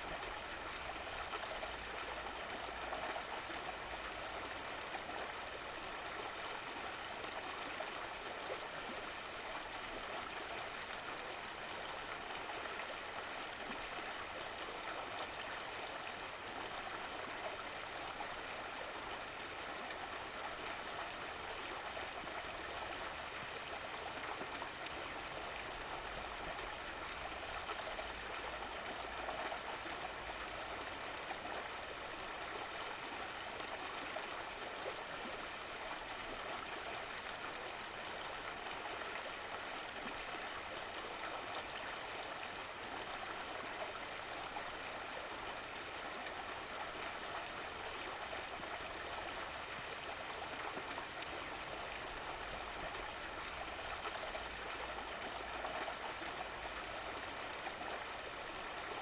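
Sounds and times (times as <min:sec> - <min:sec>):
stream flowing and trickling: 0:00.0 - 0:59.0.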